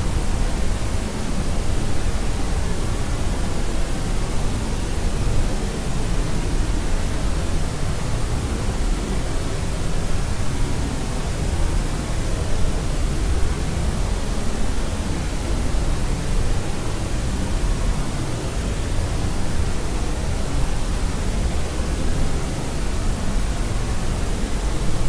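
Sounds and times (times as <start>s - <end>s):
low electronic noise hiss: 0.0s - 25.0s.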